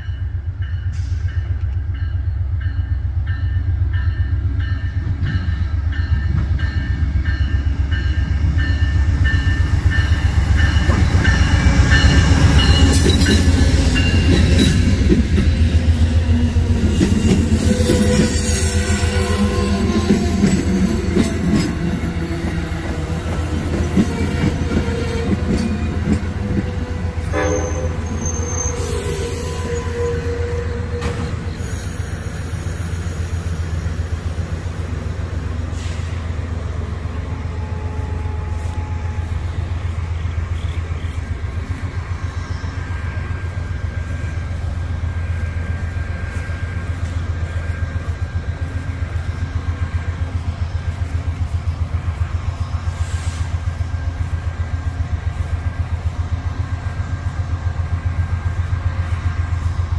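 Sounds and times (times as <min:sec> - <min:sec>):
diesel freight train rumbling: 0:00.0 - 0:59.9.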